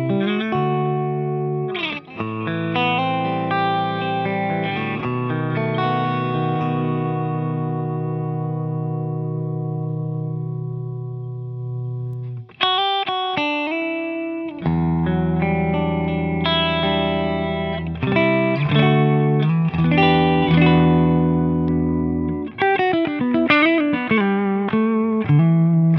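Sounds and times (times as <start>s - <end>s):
electric guitar chords: 0.0s - 25.9s
picked guitar notes: 0.0s - 25.9s.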